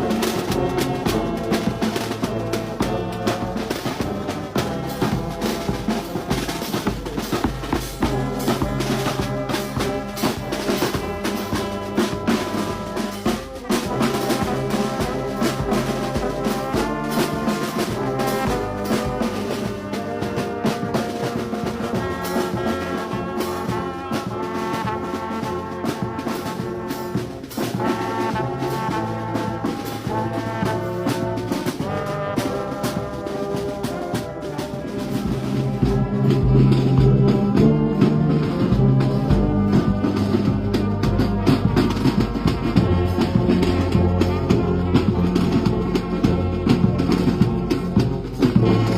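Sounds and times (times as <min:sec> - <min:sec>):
brass band playing: 0:00.0 - 0:48.9.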